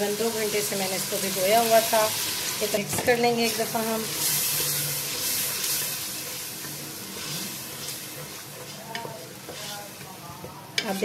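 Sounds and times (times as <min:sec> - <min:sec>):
lentils sizzling in hot oil: 0:00.0 - 0:11.0
wooden spoon stirring: 0:01.8 - 0:11.0.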